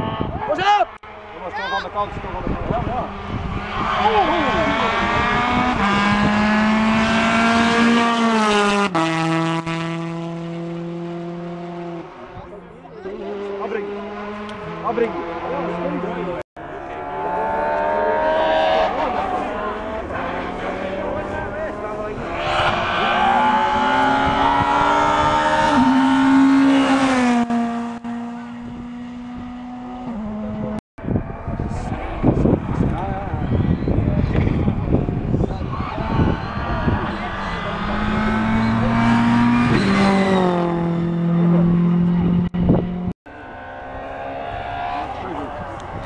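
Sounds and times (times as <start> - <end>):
rally car engine at high revs: 1.1 - 12.4, 13.0 - 46.0.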